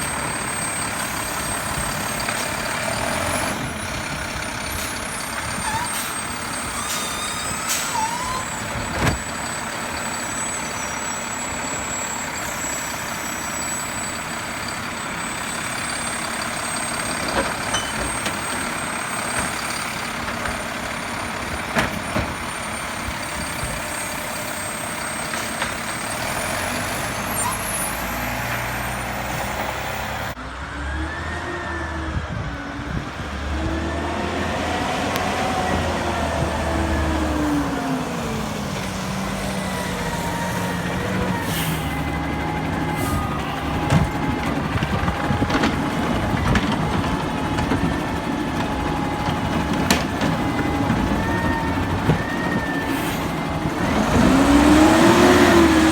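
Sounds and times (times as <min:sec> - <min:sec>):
garbage truck engine running: 0:00.0 - 0:55.9.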